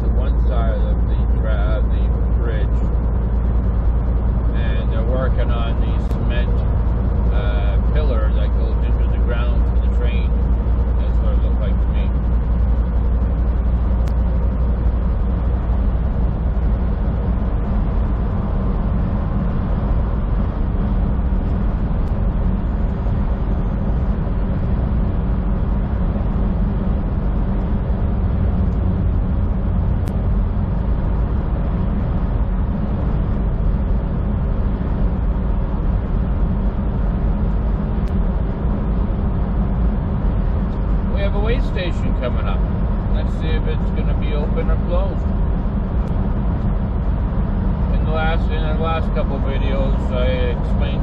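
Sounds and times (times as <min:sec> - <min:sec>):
faint steady tones: 0:00.0 - 0:51.0
truck engine and tyre drone: 0:00.0 - 0:51.0.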